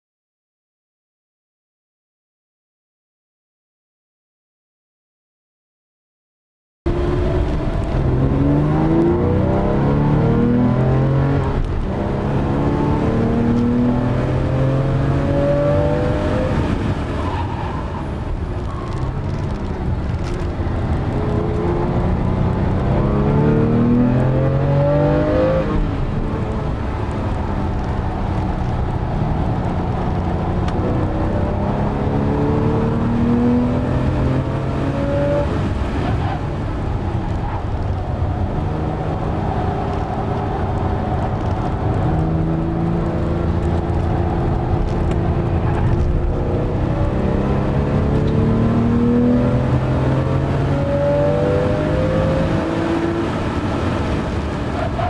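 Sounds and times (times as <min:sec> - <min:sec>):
car engine accelerating hard: 0:06.9 - 0:55.0.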